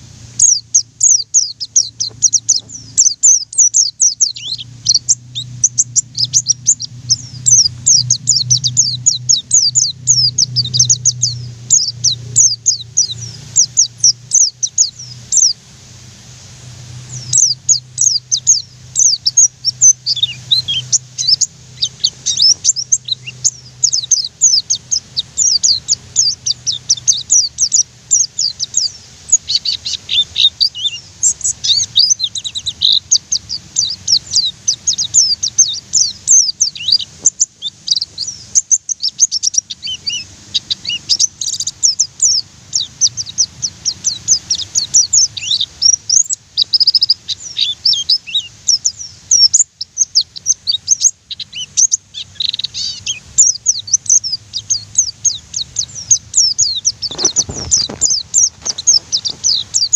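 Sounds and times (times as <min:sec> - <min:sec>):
bird singing high chirps: 0:00.0 - 0:15.6, 0:16.8 - 0:59.9.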